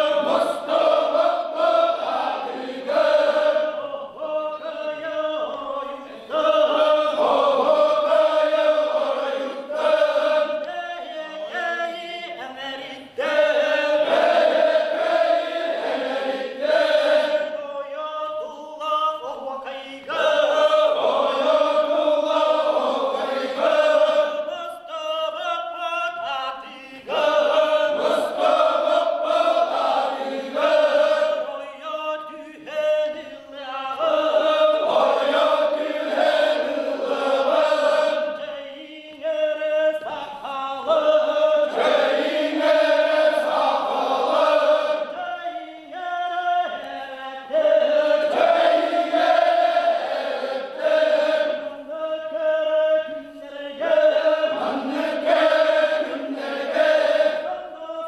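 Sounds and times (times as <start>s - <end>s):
men chanting a circle-dance song: 0.0s - 58.0s.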